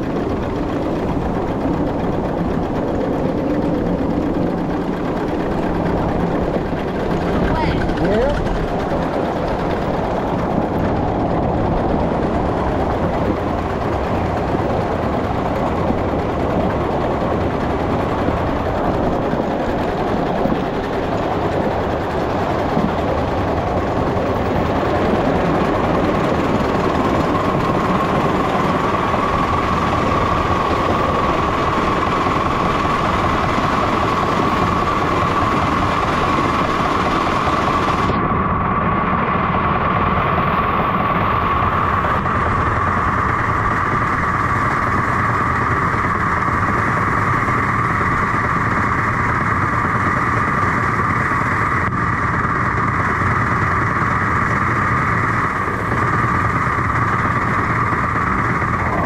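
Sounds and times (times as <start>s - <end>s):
miniature train running on track: 0.0s - 38.1s, 39.6s - 59.0s.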